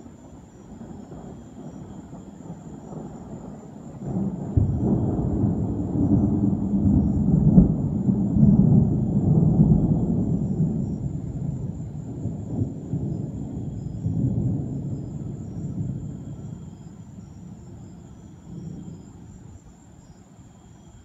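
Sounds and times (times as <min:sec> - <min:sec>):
thunder rumbling: 0:00.0 - 0:20.2.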